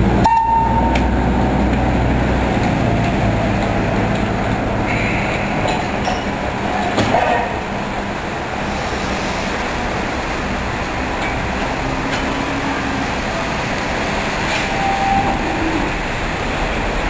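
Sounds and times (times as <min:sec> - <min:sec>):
rain: 0:00.0 - 0:17.0
street noise: 0:00.0 - 0:17.0
train wheels rumbling on rails: 0:00.0 - 0:17.0.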